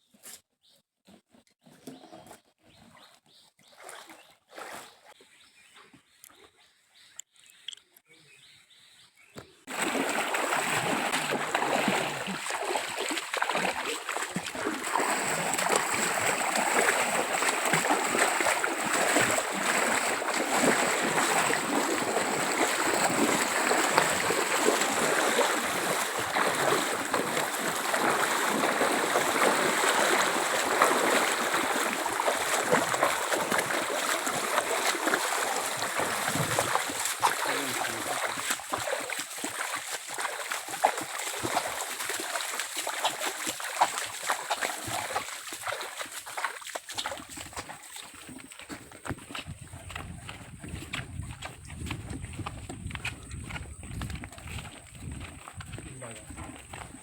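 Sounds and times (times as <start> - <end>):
stream water running and splashing: 3.6 - 5.2, 9.7 - 57.0.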